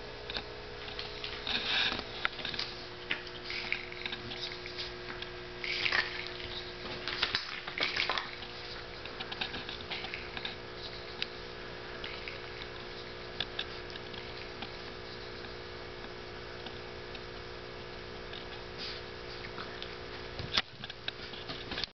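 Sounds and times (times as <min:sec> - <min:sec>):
electrical hum: 0:00.0 - 0:21.9.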